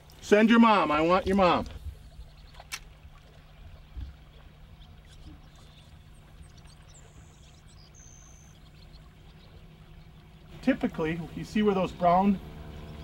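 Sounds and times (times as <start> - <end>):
small stream flowing: 0.0 - 13.0.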